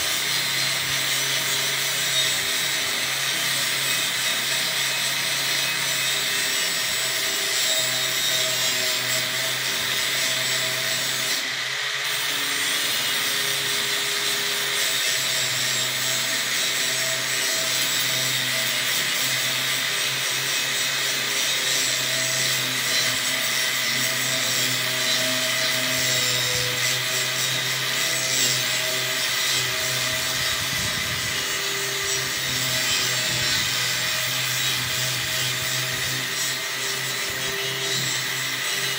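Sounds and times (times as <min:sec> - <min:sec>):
angle grinder scraping steel: 0:00.0 - 0:38.9.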